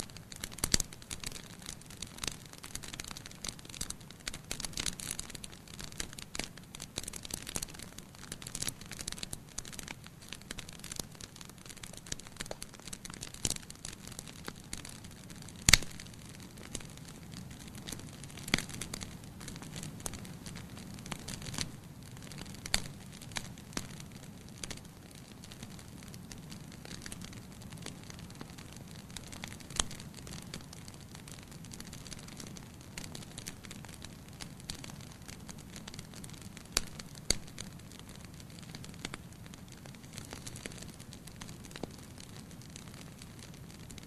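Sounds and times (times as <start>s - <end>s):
fire popping: 0.0s - 44.0s
wood fire crackling: 0.0s - 44.0s.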